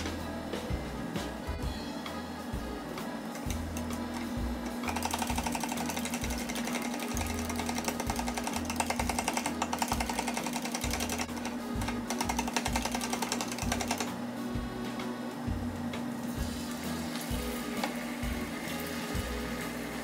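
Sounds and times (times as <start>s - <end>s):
background music with bass: 0.0s - 20.0s.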